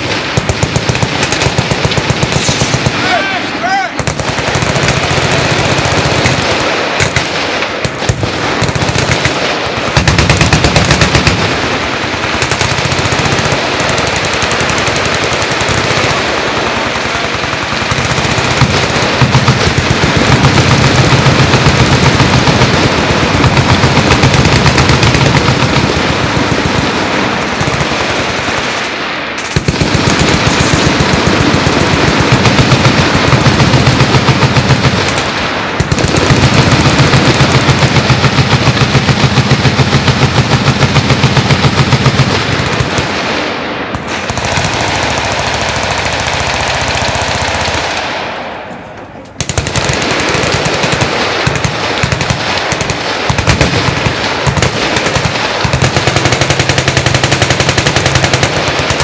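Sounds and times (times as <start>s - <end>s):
machine guns firing: 0.0s - 59.0s.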